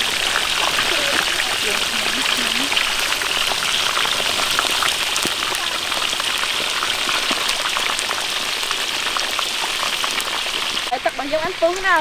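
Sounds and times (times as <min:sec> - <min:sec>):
oil sizzling with pops: 0:00.0 - 0:12.0.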